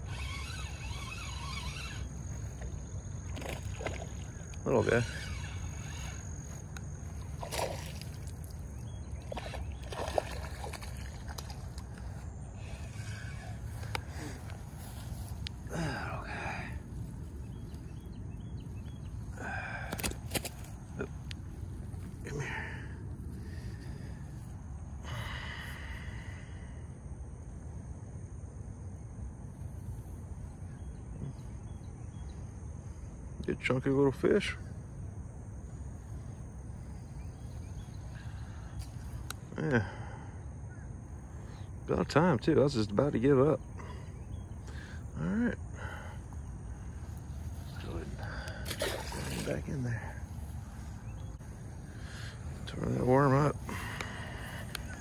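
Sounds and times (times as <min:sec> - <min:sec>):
faint insect drone: 0:00.0 - 0:55.0.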